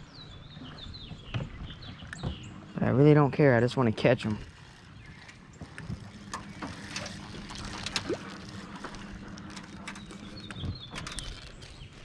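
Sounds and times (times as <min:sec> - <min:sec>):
electric trolling motor humming: 0:00.1 - 0:12.0.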